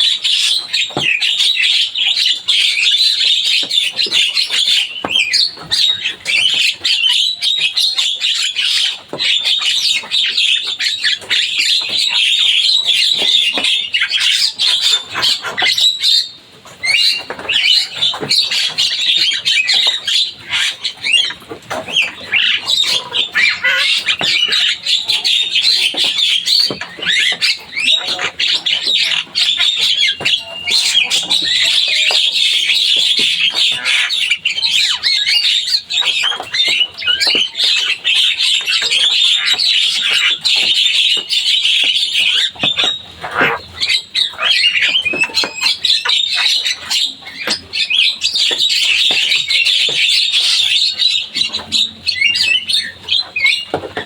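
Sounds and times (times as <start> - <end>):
bird chattering song: 0.0 - 54.0.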